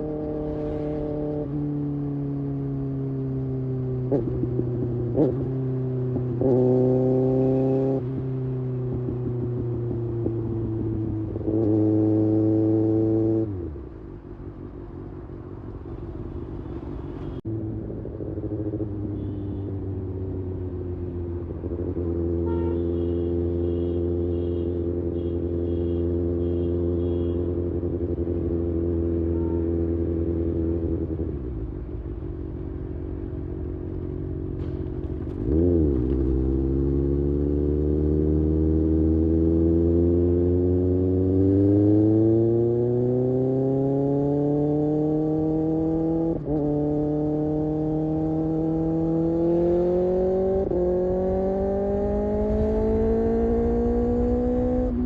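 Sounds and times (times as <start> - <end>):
motorcycle engine revving: 0.0 - 13.8, 17.4 - 55.0.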